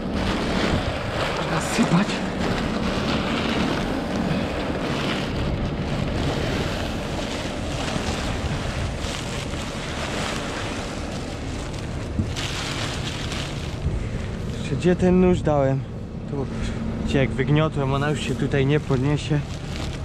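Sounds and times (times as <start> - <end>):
tractor engine running: 0.0 - 20.0
wind buffeting microphone: 0.0 - 20.0.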